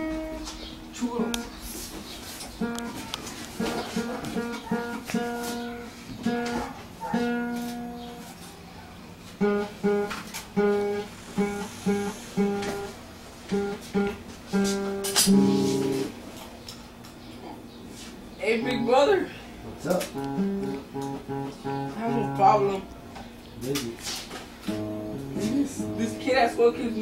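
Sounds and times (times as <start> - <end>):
acoustic guitar playing: 0.0 - 8.3, 9.3 - 16.4, 18.4 - 23.0, 24.6 - 27.0.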